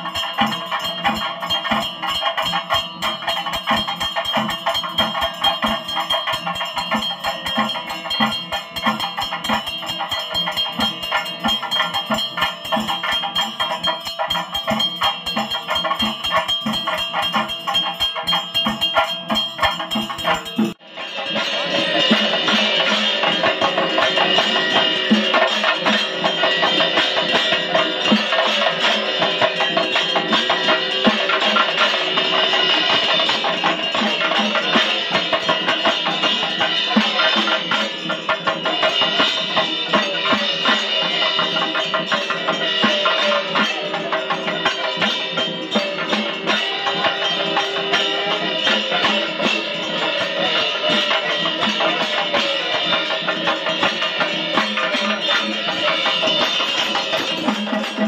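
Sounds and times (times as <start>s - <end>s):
bell ringing: 0.0s - 58.0s
fast drum and percussion music: 0.0s - 58.0s.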